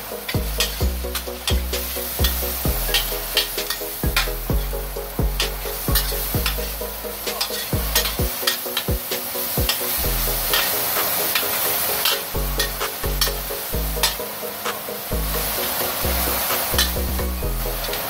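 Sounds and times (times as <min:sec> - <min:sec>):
background music with bass beat: 0:00.0 - 0:18.0.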